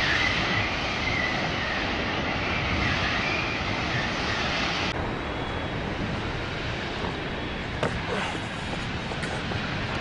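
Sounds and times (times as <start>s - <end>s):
large fire roaring: 0.0s - 10.0s.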